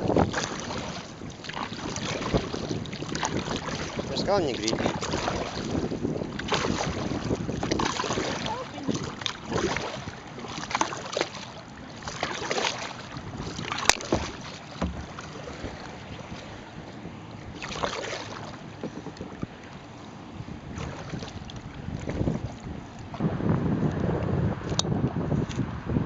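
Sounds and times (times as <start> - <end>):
paddle splashing in water: 0.0 - 23.4
wind buffeting microphone: 0.0 - 26.0.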